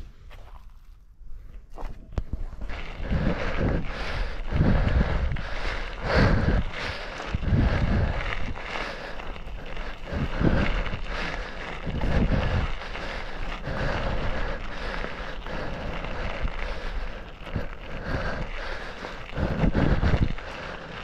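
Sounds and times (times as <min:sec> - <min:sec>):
bicycle tyres crunching gravel: 0:00.0 - 0:21.0
bicycle rattling over bumps: 0:00.4 - 0:21.0
wind on microphone: 0:01.8 - 0:18.6, 0:19.2 - 0:21.0.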